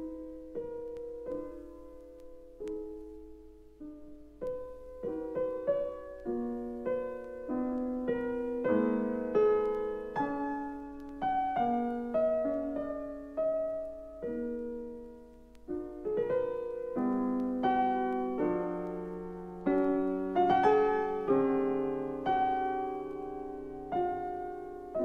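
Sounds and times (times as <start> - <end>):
piano chords: 0.0 - 25.0.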